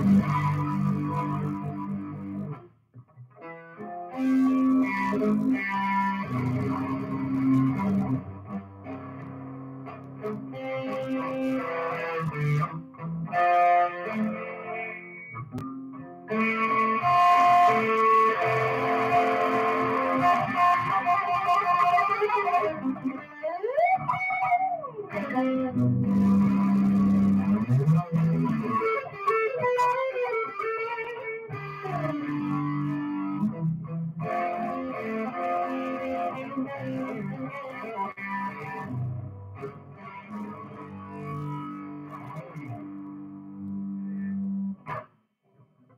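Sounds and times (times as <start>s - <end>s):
electric guitar chords: 0.0s - 45.1s.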